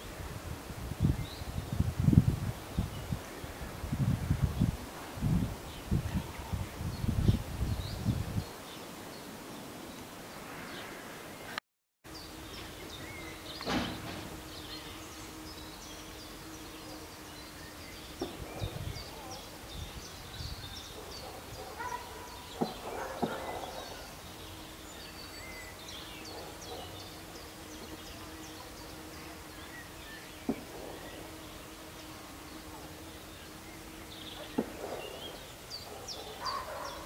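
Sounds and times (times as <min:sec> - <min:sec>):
small birds chirping and singing: 0:01.0 - 0:37.0.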